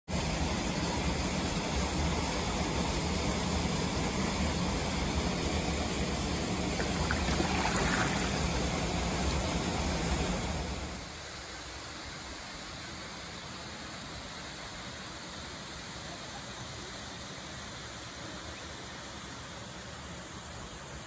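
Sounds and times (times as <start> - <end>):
stream and waterfall rushing: 0.2 - 21.0.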